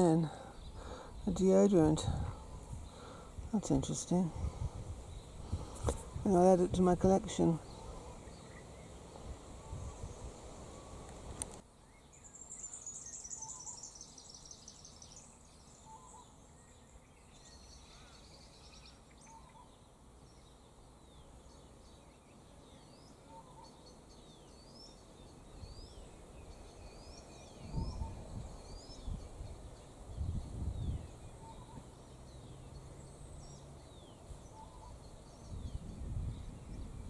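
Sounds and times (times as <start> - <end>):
faint outdoor background noise: 0.0 - 37.0.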